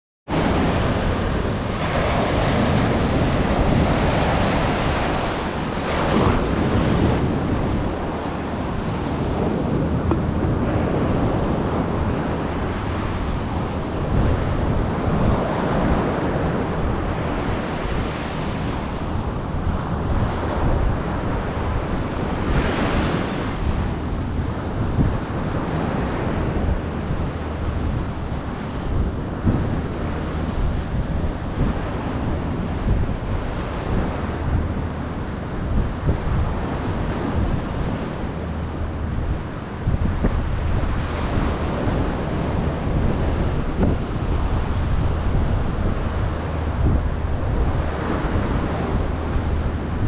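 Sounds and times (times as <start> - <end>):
ocean surf washing ashore: 0.3 - 50.0
wind buffeting microphone: 0.3 - 50.0.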